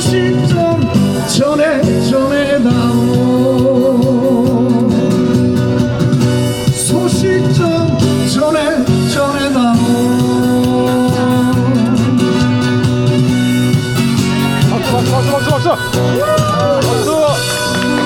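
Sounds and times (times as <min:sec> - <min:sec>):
guitar accompaniment: 0:00.0 - 0:18.0.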